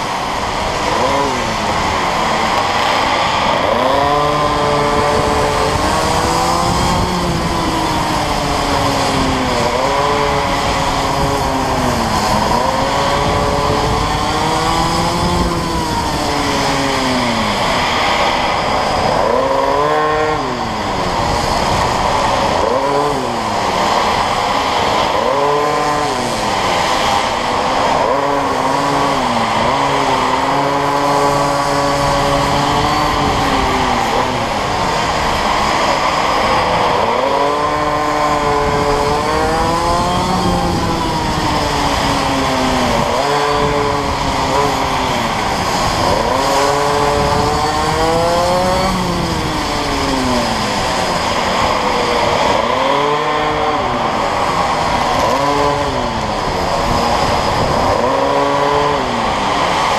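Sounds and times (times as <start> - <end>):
go-kart motor revving: 0.0 - 59.9.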